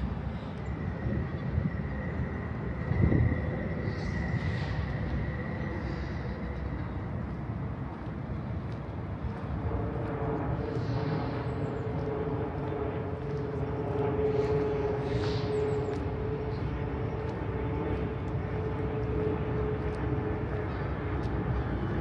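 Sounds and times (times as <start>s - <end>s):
engine drone: 0.0s - 22.0s
outdoor city noise: 0.0s - 22.0s.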